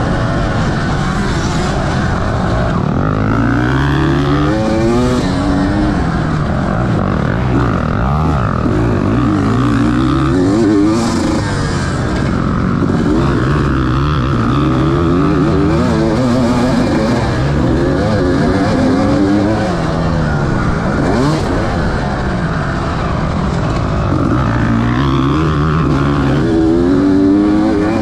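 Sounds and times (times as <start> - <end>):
motocross bike engine revving: 0.0 - 28.0.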